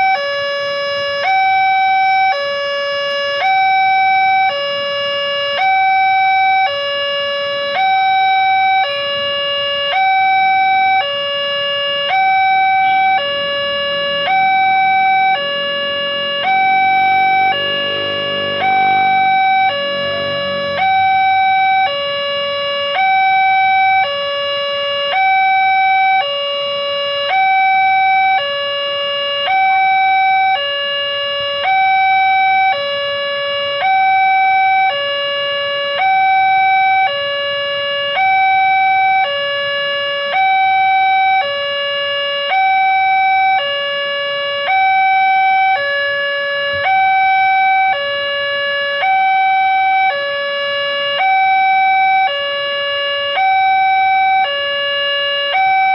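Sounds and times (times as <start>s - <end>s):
level crossing two-tone alarm: 0.0s - 55.9s.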